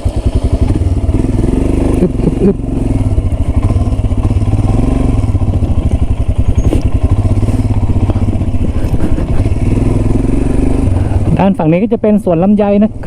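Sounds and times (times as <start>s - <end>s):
single-cylinder motorcycle engine: 0.0s - 13.0s.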